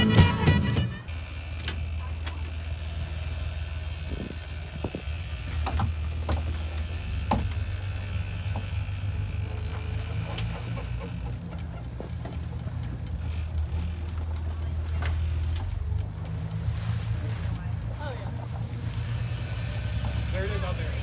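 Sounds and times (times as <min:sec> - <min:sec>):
boat engine droning: 0:00.0 - 0:21.0
wind: 0:00.0 - 0:21.0
water noise: 0:01.1 - 0:21.0.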